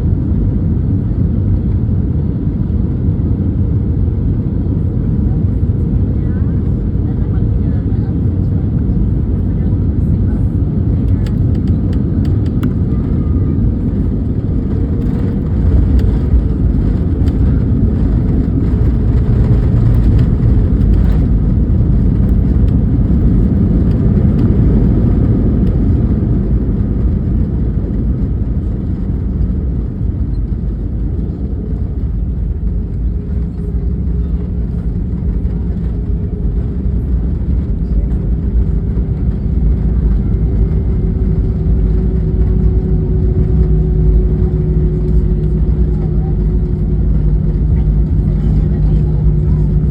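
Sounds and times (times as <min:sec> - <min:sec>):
airliner engines rumbling: 0:00.0 - 0:49.9.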